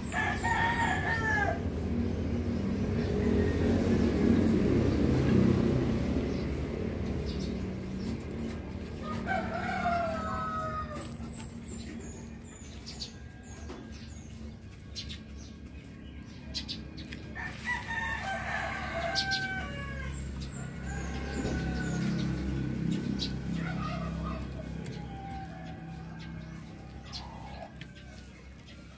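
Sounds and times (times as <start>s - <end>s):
chickens calling: 0.0s - 28.9s.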